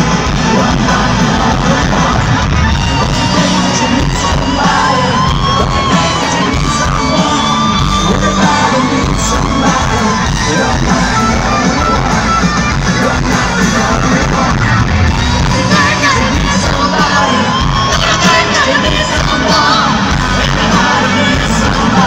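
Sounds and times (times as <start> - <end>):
crowd singing and yelling: 0.0 - 22.0
electric guitar lead: 0.0 - 22.0
live rock band playing ballad: 0.0 - 22.0.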